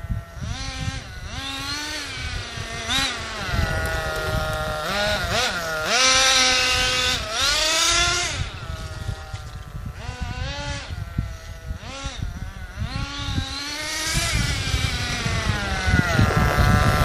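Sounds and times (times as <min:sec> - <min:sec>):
small nitro engine revving: 0:00.0 - 0:17.0.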